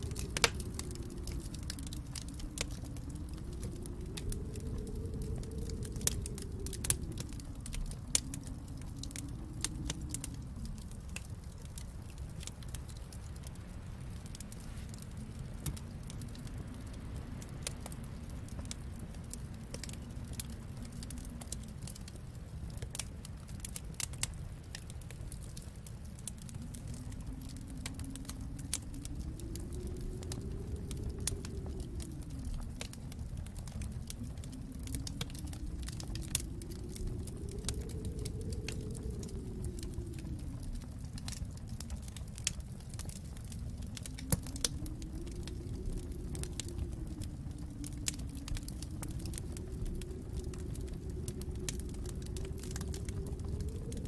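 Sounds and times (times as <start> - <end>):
low steady rumble: 0.0 - 54.0
wood fire crackling: 0.0 - 54.0.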